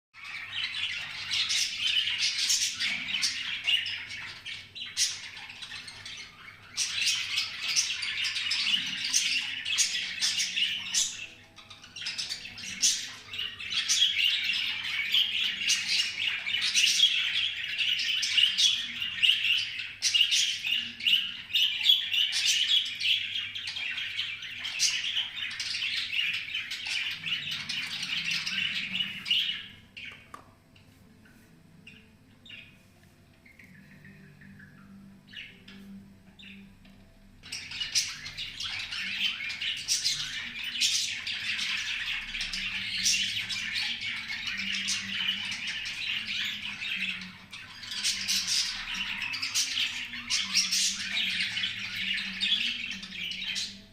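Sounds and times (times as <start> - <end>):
small birds chirping: 0.1 - 53.9.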